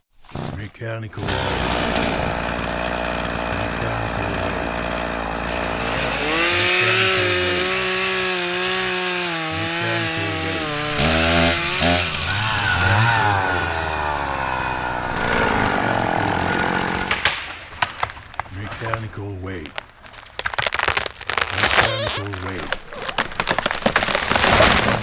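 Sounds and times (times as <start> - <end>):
chainsaw cutting wood: 1.2 - 25.0
sharp cracks: 1.2 - 25.0.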